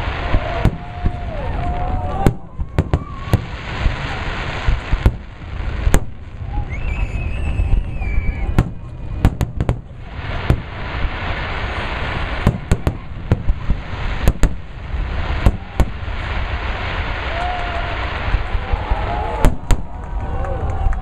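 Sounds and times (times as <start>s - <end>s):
firework shells booming: 0.0s - 20.2s.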